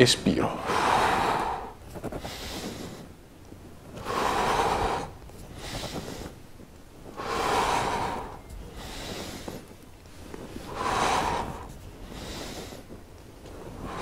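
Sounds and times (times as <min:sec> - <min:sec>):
man breathing heavily: 0:00.4 - 0:14.0.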